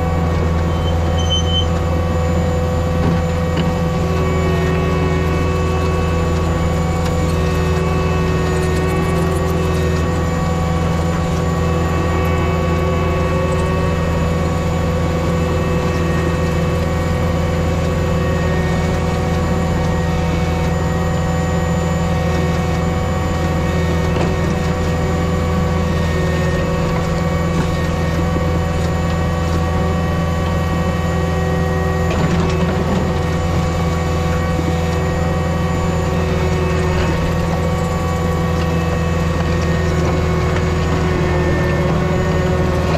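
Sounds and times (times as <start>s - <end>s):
diesel engine running under load: 0.0s - 42.9s
grader blade pushing dirt: 0.0s - 42.9s.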